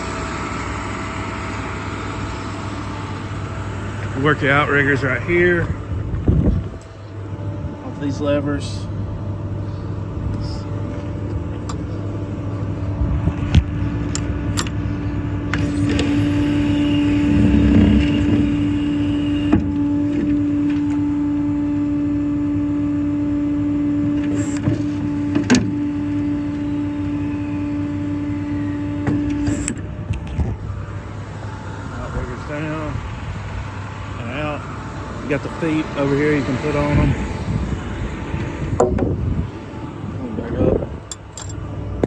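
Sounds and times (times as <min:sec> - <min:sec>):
diesel engine idling: 0:00.0 - 0:42.0
hydraulic pump whine: 0:00.0 - 0:42.0.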